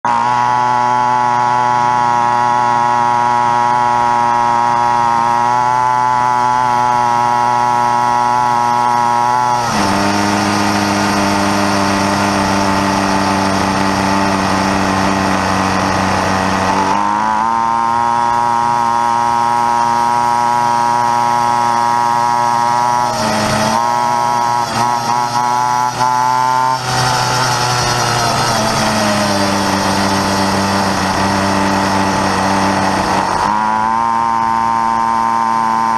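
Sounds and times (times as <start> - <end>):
small two-stroke engine buzzing: 0.0 - 35.9.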